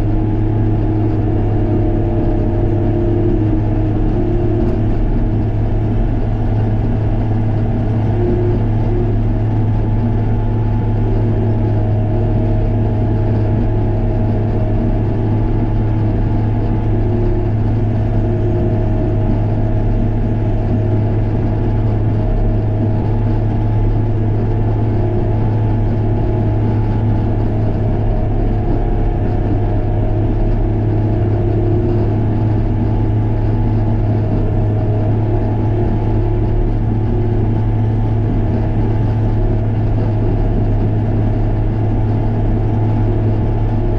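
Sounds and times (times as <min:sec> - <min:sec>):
diesel engine humming: 0:00.0 - 0:43.9.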